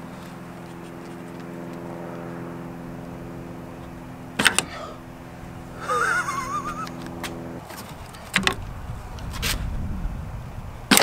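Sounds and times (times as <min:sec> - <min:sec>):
low multi-tone hum: 0:00.0 - 0:11.0.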